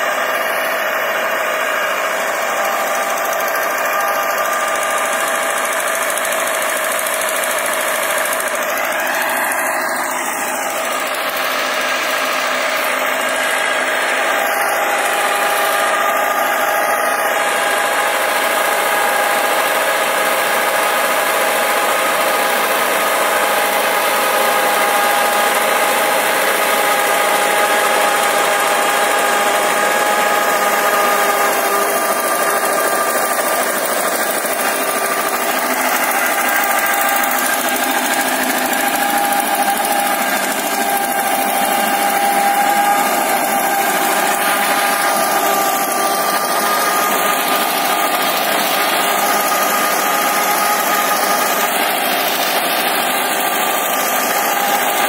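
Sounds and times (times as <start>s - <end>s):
rotavator tilling soil: 0.0s - 55.0s
steady whine: 0.0s - 55.0s
tractor diesel engine running: 0.0s - 55.0s.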